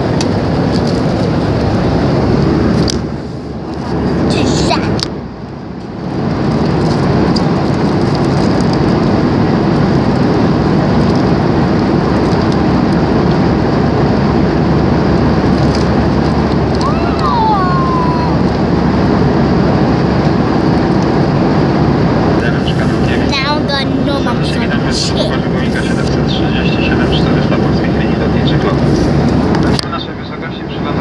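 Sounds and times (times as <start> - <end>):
airliner engine noise in cabin: 0.0 - 31.0.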